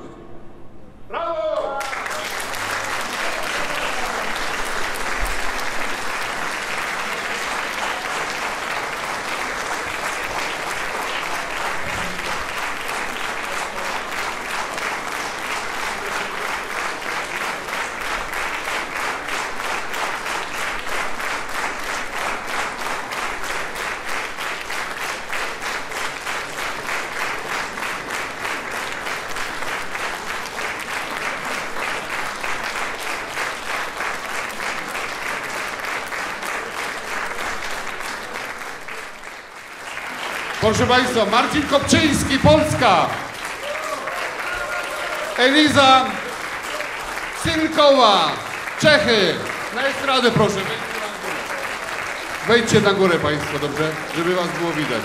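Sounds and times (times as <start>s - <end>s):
audience applauding: 1.6s - 55.0s
rhythmic clapping in unison: 1.8s - 55.0s.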